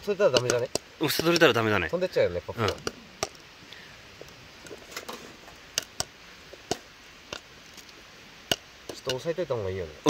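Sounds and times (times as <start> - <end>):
popcorn kernels popping: 0.0 - 3.5, 4.2 - 9.3.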